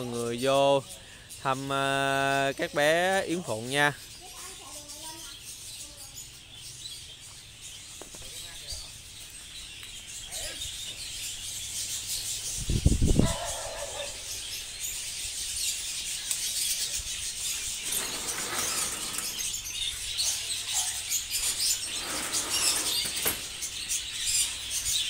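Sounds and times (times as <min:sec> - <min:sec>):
budgerigars chattering and chirping: 0:00.0 - 0:25.0.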